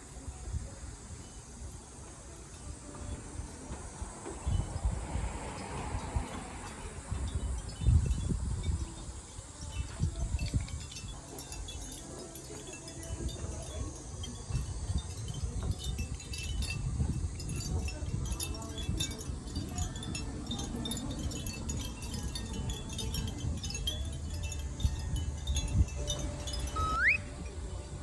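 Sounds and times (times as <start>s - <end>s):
chimes tinkling: 0.2s - 28.0s.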